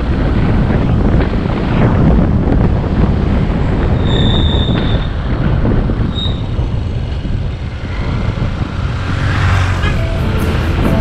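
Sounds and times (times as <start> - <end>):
road noise: 0.0 - 11.0
wind buffeting microphone: 0.0 - 11.0.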